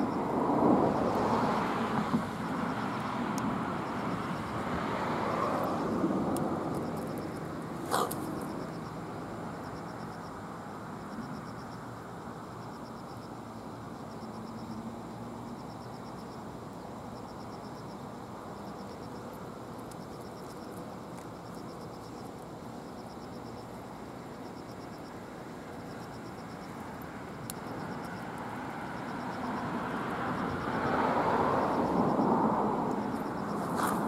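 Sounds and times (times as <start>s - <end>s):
low outdoor rush: 0.0s - 34.0s.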